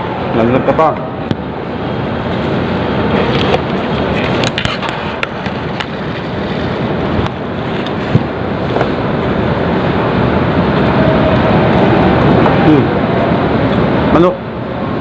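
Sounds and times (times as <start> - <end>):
moving vehicle rumble and hiss: 0.0 - 15.0.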